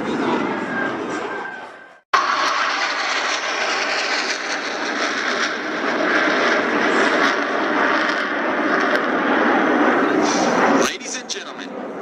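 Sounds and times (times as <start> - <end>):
jet noise rushing: 2.2 - 12.0.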